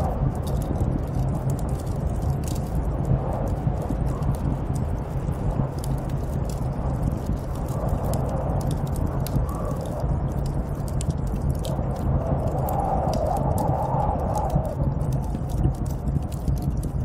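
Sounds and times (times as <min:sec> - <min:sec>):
small sharp crackles and ticks: 0:00.0 - 0:17.0
snowstorm wind blowing: 0:00.0 - 0:17.0.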